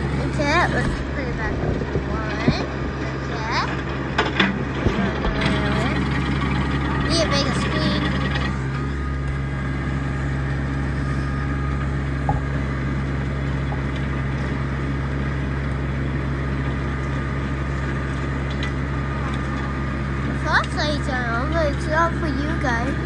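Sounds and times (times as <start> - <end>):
rotary tiller churning ground: 0.0 - 23.0
tractor engine under load: 0.0 - 23.0.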